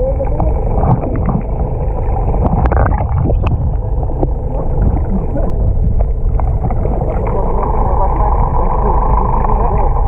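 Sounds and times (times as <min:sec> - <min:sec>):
low underwater rumble: 0:00.0 - 0:10.0.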